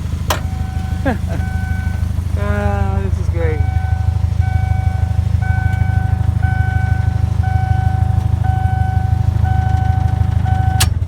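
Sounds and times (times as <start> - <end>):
car engine idling: 0.0 - 11.0
electronic warning beep: 0.3 - 2.2, 3.4 - 10.9.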